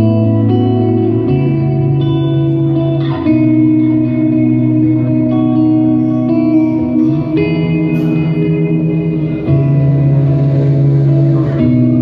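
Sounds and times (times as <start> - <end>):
ambient electric guitar chords: 0.0 - 12.0.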